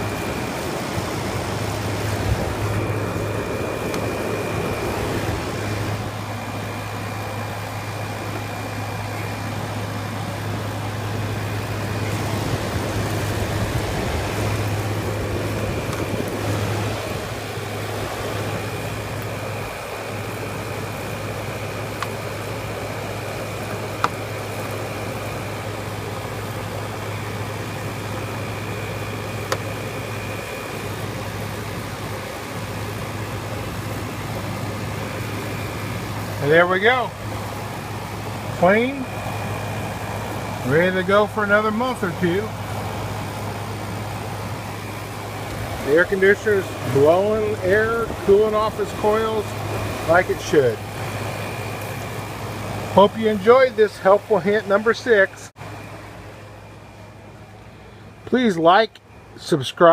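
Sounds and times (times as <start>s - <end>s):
air conditioner humming: 0.0s - 59.9s
faint high whine: 0.0s - 59.9s.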